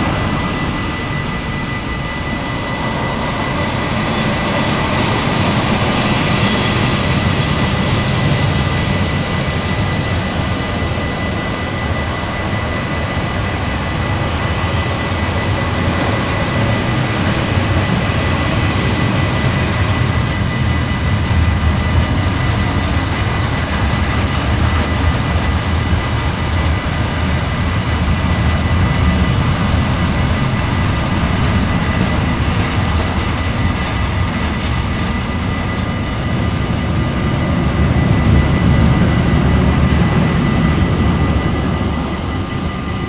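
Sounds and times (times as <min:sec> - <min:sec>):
thin high tone: 0:00.0 - 0:43.0
train wheels rumbling on rails: 0:00.0 - 0:43.0.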